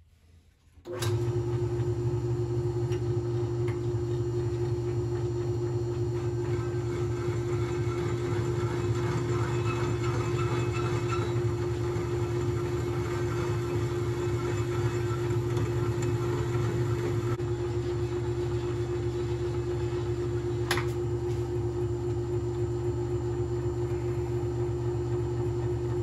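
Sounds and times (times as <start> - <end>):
metal lathe humming and whining: 1.1 - 25.8.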